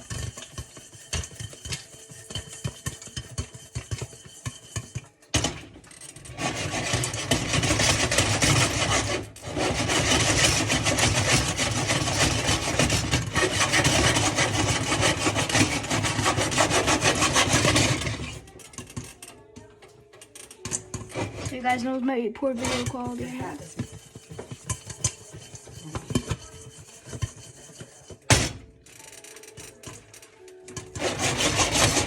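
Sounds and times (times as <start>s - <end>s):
popcorn popping in hot oil: 0.0s - 32.0s.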